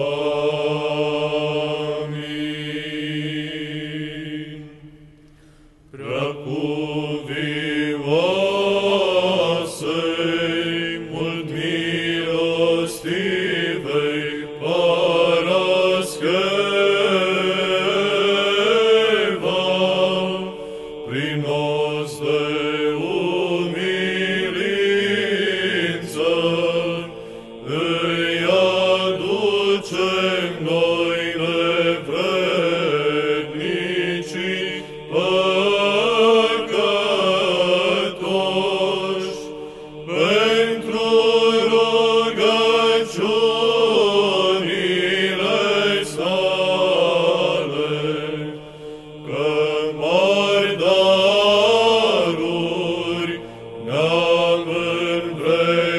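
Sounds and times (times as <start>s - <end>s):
male choir chanting: 0.0s - 5.0s, 5.9s - 55.9s.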